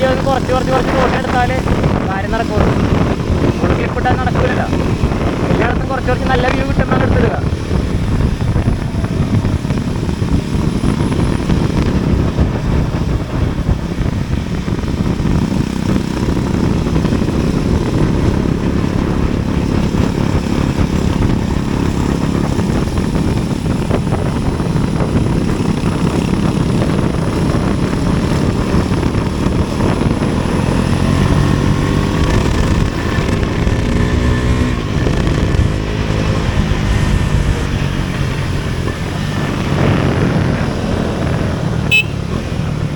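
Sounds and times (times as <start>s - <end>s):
road noise: 0.0s - 42.9s
vehicle engine running: 0.0s - 42.9s.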